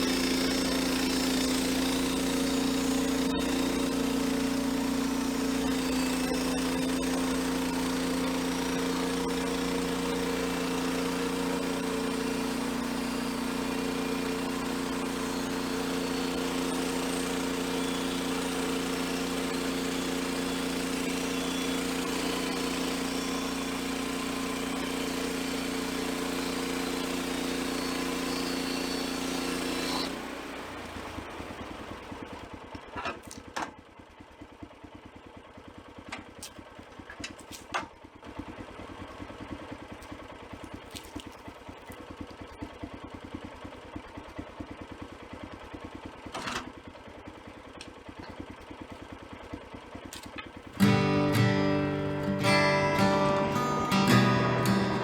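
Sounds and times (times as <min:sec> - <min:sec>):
sawmill gas engine running: 0:00.0 - 0:55.0.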